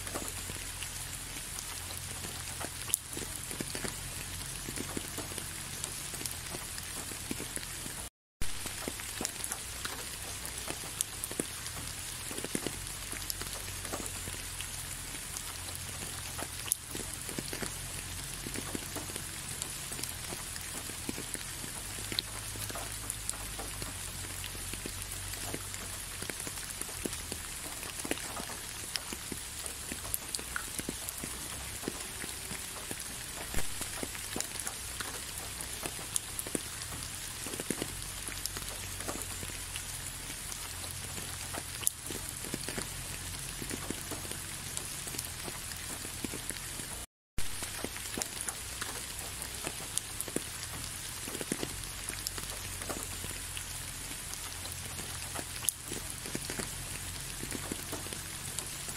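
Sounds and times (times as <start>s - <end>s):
raindrops ticking: 0.0s - 58.9s
steady rainfall hiss: 0.0s - 58.9s.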